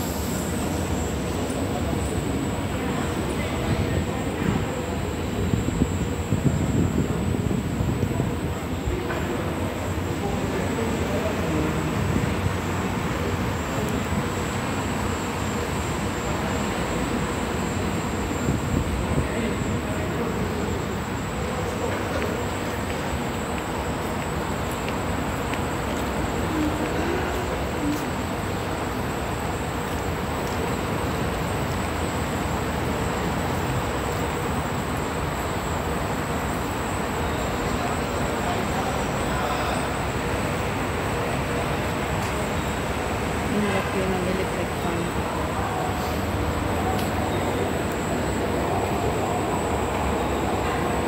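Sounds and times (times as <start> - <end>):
faint steady hum: 0.0 - 51.0
station platform rumble: 0.0 - 51.0
train running on track: 0.0 - 51.0.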